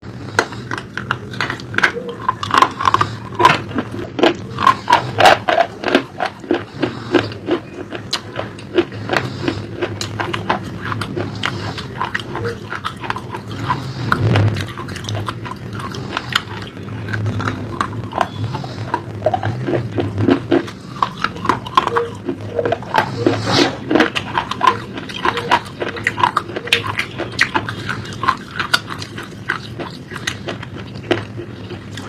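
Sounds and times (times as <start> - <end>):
chewing crunchy food: 0.0 - 32.0.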